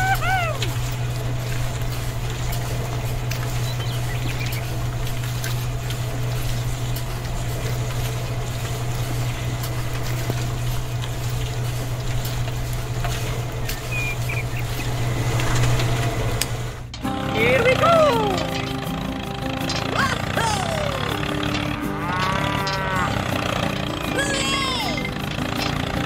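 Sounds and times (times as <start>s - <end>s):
small motor humming: 0.0s - 26.0s.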